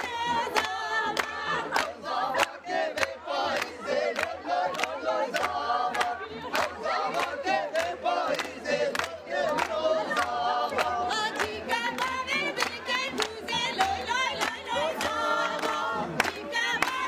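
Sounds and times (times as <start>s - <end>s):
crowd singing: 0.0s - 17.0s
hand-clapping: 0.0s - 17.0s.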